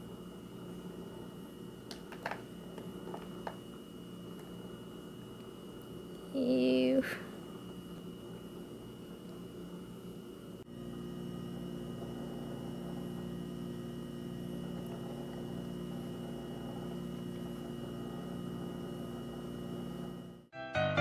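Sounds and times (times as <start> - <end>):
steady electrical hum: 0.0 - 20.5
faint high whine: 2.6 - 20.5.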